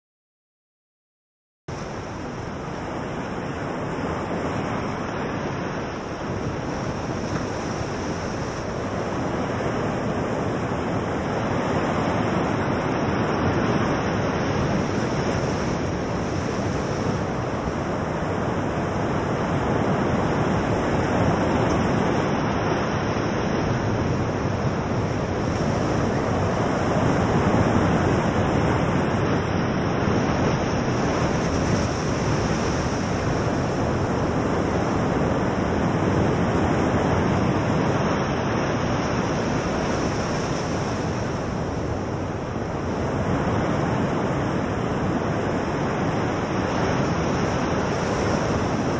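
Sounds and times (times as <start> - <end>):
ocean surf washing over rocks: 1.7 - 48.9.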